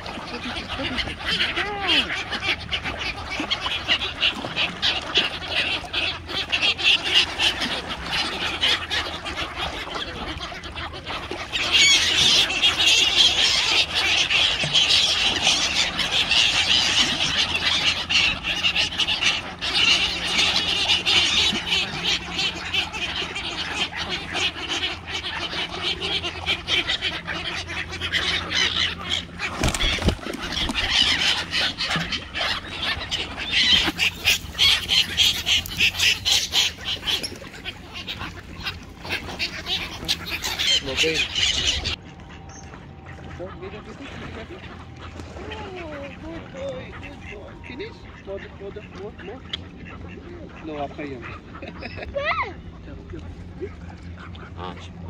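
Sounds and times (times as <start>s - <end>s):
waterbirds squawking and honking: 0.0s - 55.0s.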